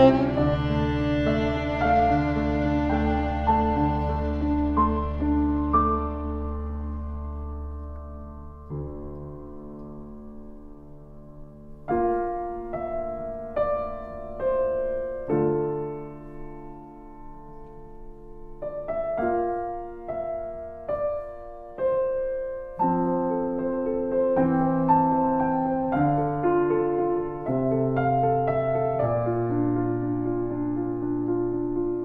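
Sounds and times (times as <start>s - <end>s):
slow solo piano music: 0.0s - 32.0s.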